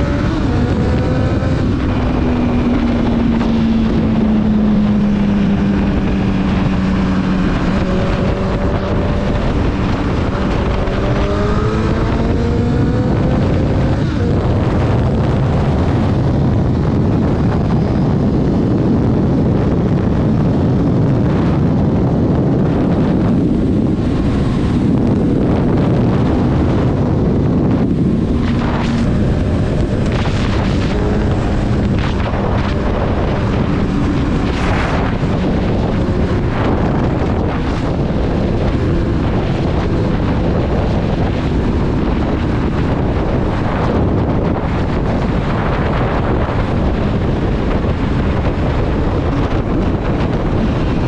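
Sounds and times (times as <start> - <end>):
motorcycle engine running: 0.0 - 51.0
wind roaring over microphone: 0.0 - 51.0.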